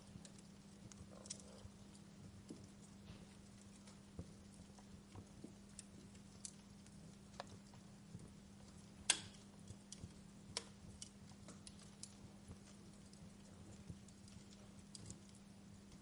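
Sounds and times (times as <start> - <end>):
faint low hum: 0.0 - 16.0
wood fire crackling: 0.0 - 16.0.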